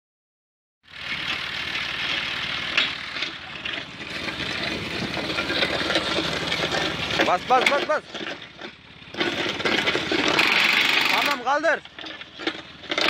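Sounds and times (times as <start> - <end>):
tractor engine running: 0.8 - 13.0.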